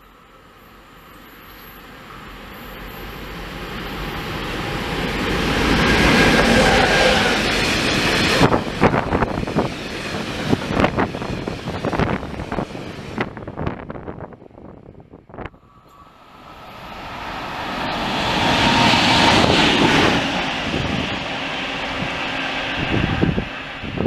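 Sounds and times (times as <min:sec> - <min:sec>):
freight train passing: 0:00.0 - 0:24.0.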